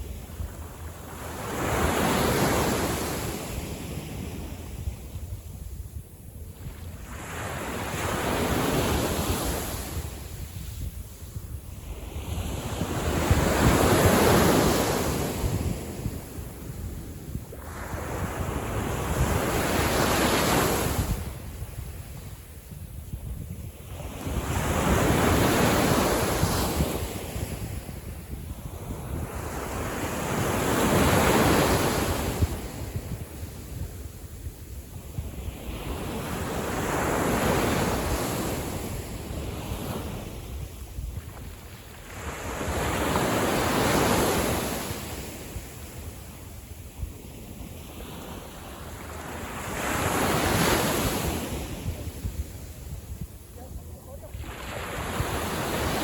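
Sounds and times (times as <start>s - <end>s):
waves washing up a beach: 0.0s - 56.0s
wind rumbling on microphone: 0.0s - 56.0s.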